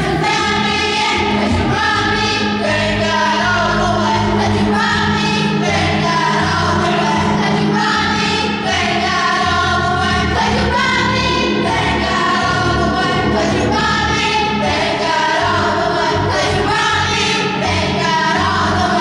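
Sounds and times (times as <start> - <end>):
children's choir singing: 0.0 - 19.0
low steady accompaniment: 0.0 - 19.0.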